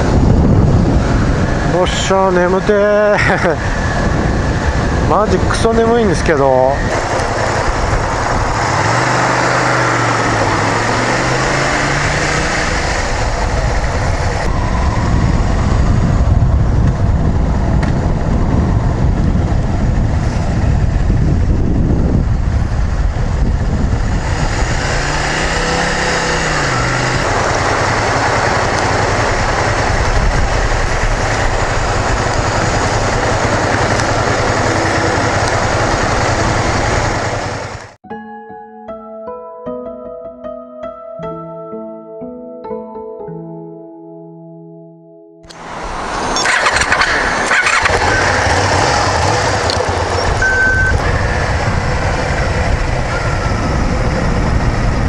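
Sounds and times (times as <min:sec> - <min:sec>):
motorcycle engine running: 0:00.0 - 0:38.0, 0:45.5 - 0:55.0
wind and road noise: 0:00.0 - 0:38.0, 0:45.4 - 0:55.0.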